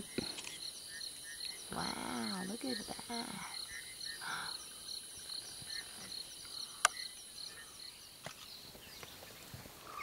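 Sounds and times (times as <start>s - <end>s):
frogs calling: 0.0s - 8.4s, 9.8s - 10.0s
insects whining: 0.0s - 10.0s.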